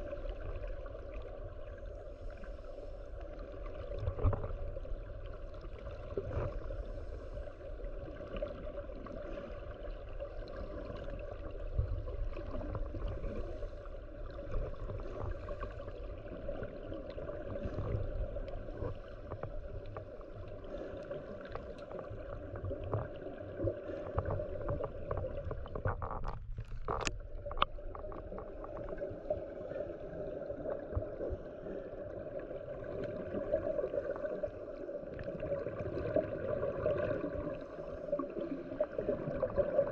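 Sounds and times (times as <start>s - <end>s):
low underwater rumbles: 0.0s - 39.9s
underwater clicks and crackles: 0.0s - 39.9s.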